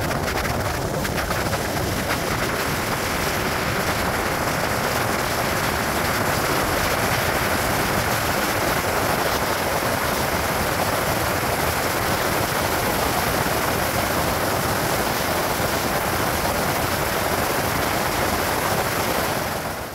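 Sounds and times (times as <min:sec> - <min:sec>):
wind rush: 0:00.0 - 0:19.9.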